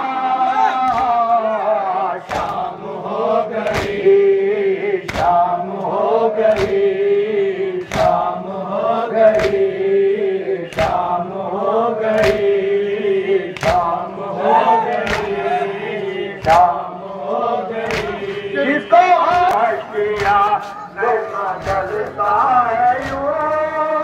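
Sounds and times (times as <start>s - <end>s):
men chanting in unison: 0.0s - 24.0s.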